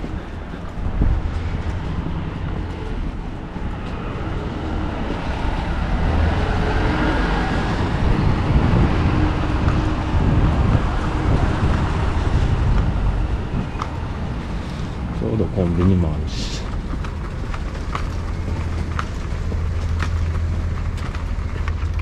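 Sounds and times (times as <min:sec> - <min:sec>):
bus engine passing: 0:00.0 - 0:22.0
traffic rumble: 0:00.0 - 0:22.0.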